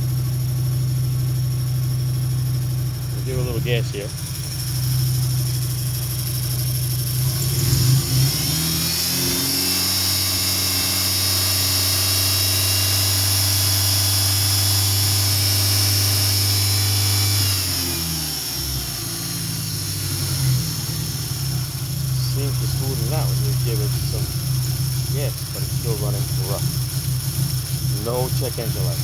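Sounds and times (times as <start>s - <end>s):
car engine running rough: 0.0s - 29.0s.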